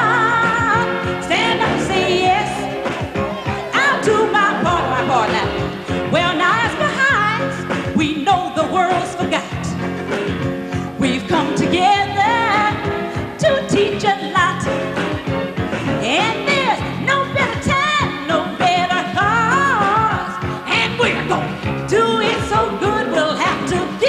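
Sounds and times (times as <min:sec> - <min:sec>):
woman singing into a microphone: 0:00.0 - 0:02.9, 0:03.5 - 0:09.8, 0:10.9 - 0:14.8, 0:16.0 - 0:24.0
instrumental backing: 0:00.0 - 0:24.0.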